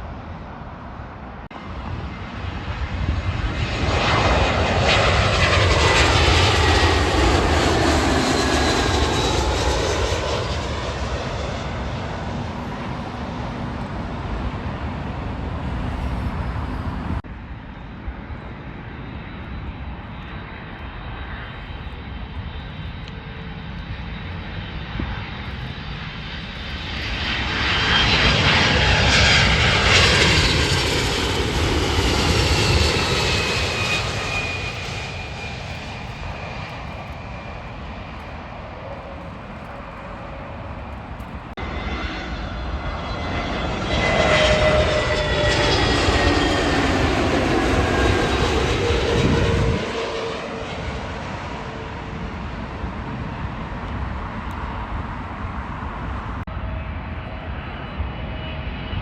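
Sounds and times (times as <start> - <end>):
jet airliners passing: 0.0 - 59.0.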